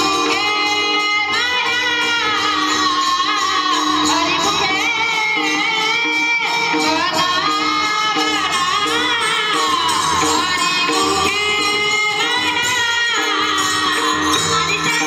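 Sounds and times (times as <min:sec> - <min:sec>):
percussion: 0:00.0 - 0:15.0.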